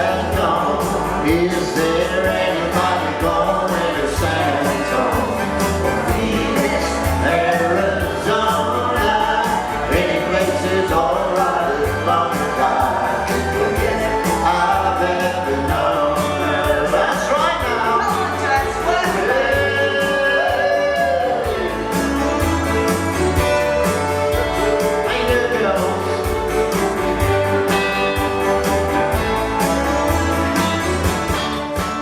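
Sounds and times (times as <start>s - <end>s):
live country music with singing: 0.0s - 32.0s.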